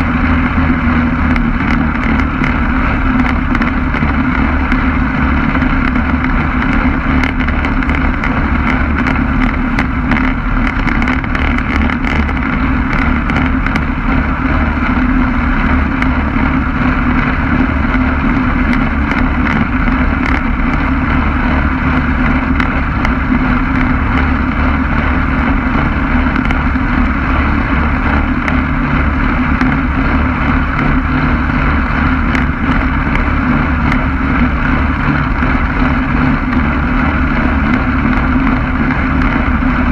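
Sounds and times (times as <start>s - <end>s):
two-stroke aircraft engine running: 0.0s - 39.9s
wind noise on microphone: 0.0s - 39.9s.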